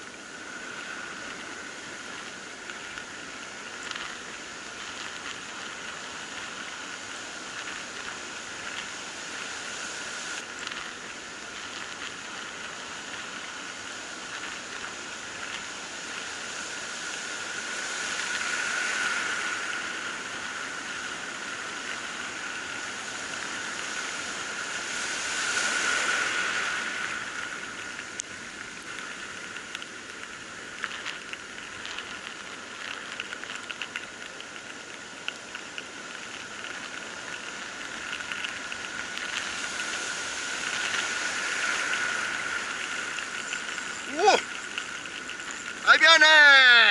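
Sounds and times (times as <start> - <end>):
rough sea surf breaking: 0.0 - 46.9.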